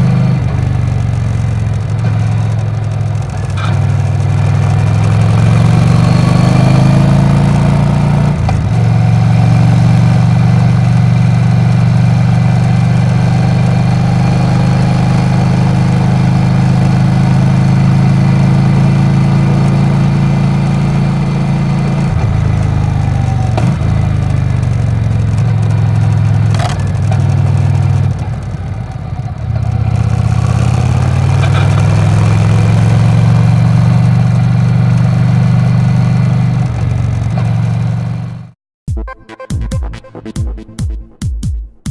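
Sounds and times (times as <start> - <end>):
motorcycle engine running: 0.0 - 38.6.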